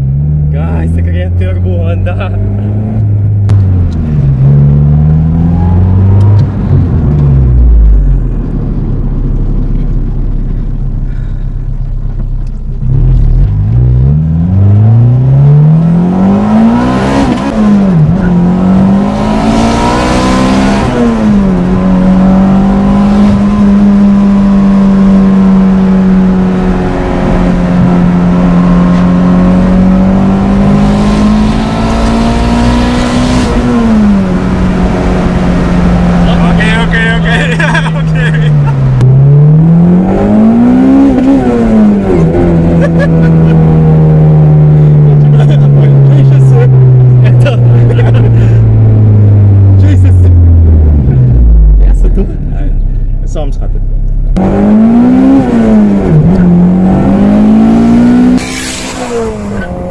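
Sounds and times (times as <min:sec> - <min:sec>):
car engine revving through gears: 0:00.0 - 0:08.7, 0:12.8 - 0:52.8, 0:54.3 - 0:59.9.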